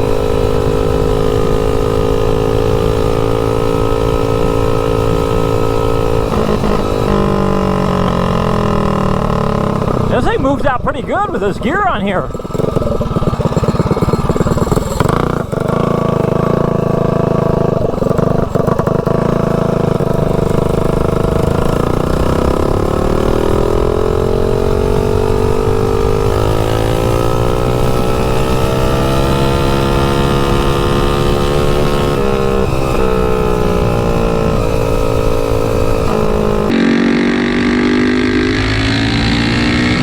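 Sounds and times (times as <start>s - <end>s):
mini bike engine running: 0.0s - 40.0s.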